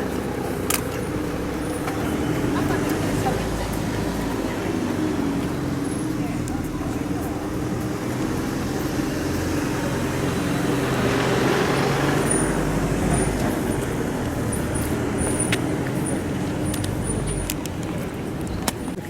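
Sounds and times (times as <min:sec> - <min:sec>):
passing traffic: 0:00.0 - 0:19.0
vehicle engine running: 0:00.0 - 0:19.0.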